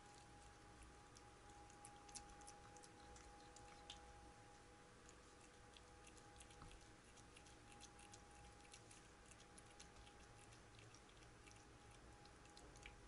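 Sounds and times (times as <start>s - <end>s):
cat licking and chewing food: 0.0s - 13.0s
faint steady hum: 0.0s - 13.0s.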